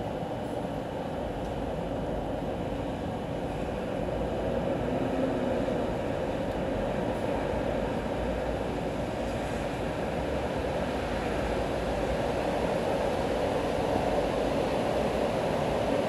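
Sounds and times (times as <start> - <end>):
traffic on wet roads: 0.4 - 16.0.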